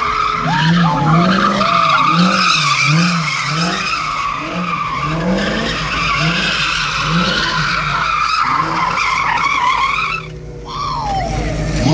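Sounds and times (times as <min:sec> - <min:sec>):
car engine running hard: 0:00.0 - 0:11.9
car tyres squealing: 0:00.0 - 0:11.9.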